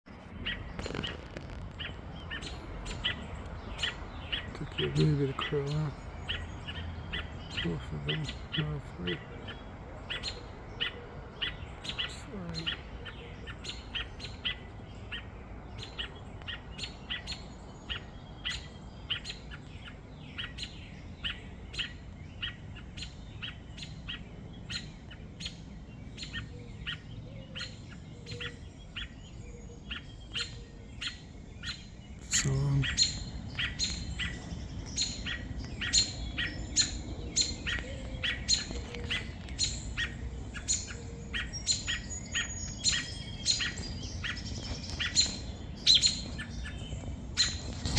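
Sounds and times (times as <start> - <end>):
robin short sharp calls: 0.2 - 19.6, 23.4 - 47.9.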